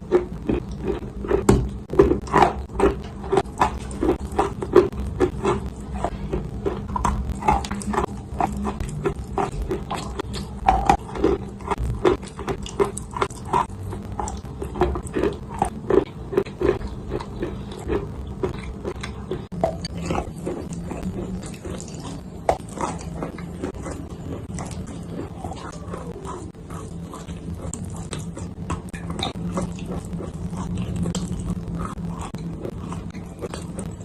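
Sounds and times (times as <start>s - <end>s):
dry clay being chewed: 0.0s - 34.0s.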